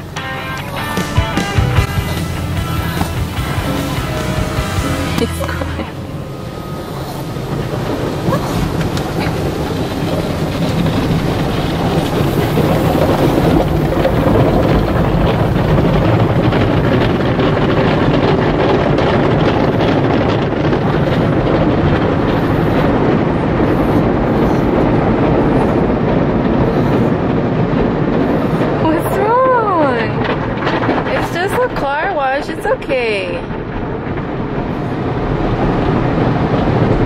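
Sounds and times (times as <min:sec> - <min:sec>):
car wash water rushing: 0:00.0 - 0:37.0.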